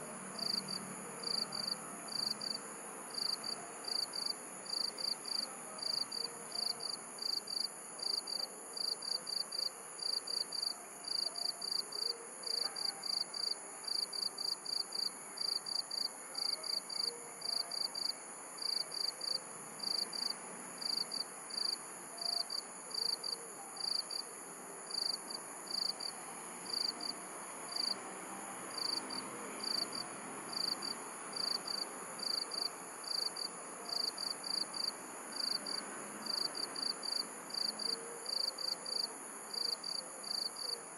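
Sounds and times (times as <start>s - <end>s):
faint background noise: 0.0s - 40.9s
crickets chirping: 0.2s - 40.9s.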